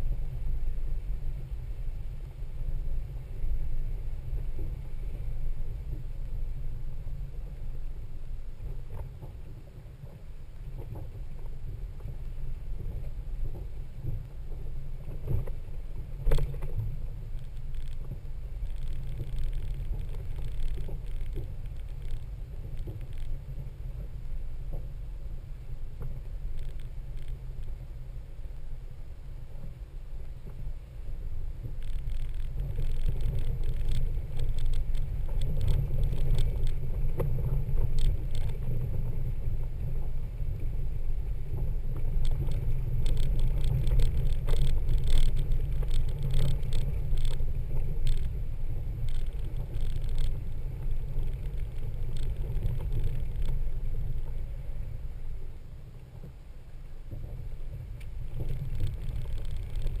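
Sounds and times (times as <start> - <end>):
rattles and ticks: 0.0 - 60.0
vehicle engine and tyres rumbling: 0.0 - 60.0.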